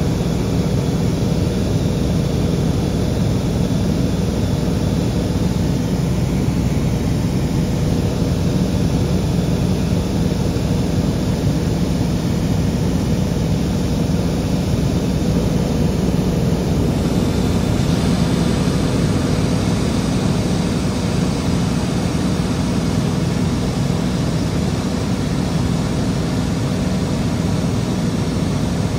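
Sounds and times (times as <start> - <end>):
propeller airplane cabin drone: 0.0 - 28.9.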